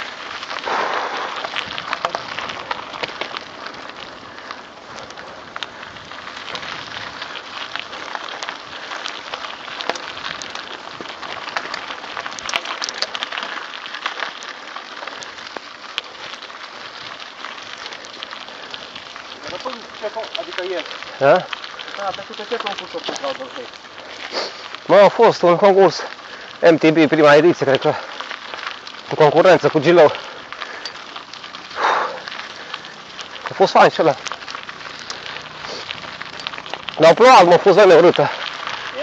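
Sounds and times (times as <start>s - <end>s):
bike tyres crunching on gravel: 0.0s - 39.0s.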